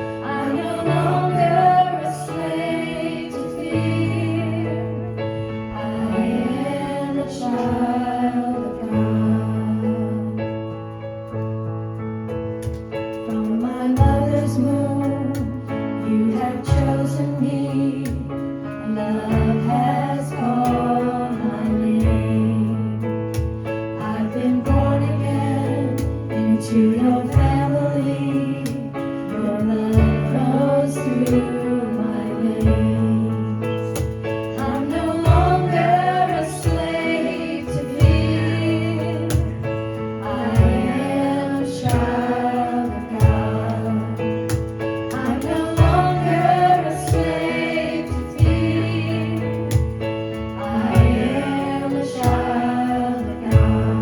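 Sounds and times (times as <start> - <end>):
live worship band playing: 0.0 - 54.0.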